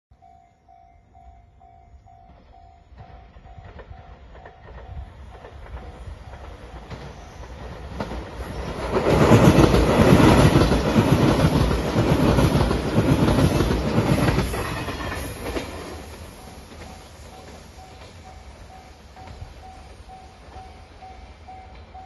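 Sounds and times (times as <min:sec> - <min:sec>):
train wheels clacking over rail joints: 0:03.0 - 0:22.0.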